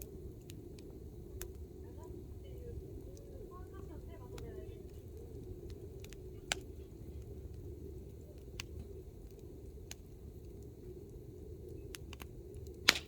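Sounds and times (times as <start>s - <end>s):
campfire burning low rumble: 0.0s - 13.0s
logs crackling and popping: 0.0s - 13.0s.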